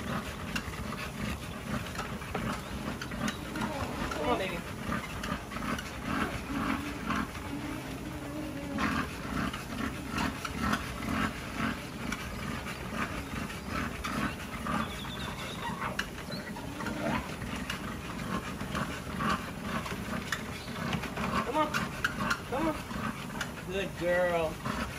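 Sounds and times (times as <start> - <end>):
dogs growling: 0.0 - 24.9
paws tapping on treadmill belt: 0.0 - 24.9.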